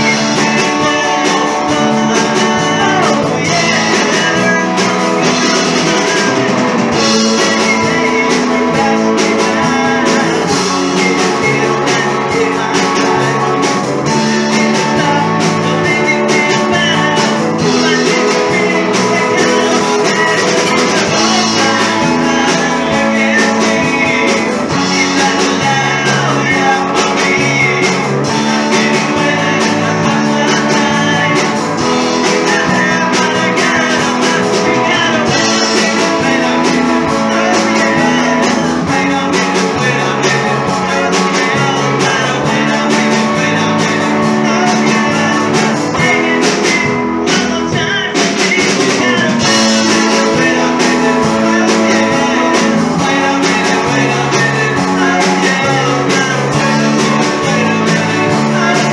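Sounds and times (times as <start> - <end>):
person singing: 0.0 - 58.9
rock and roll band playing: 0.0 - 58.9.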